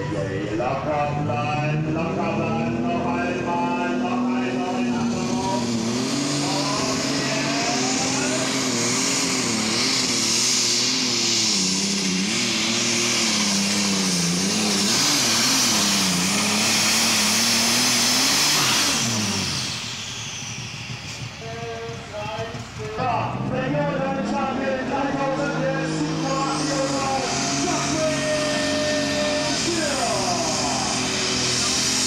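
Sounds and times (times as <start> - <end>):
tractor diesel engine running hard: 0.0 - 32.0.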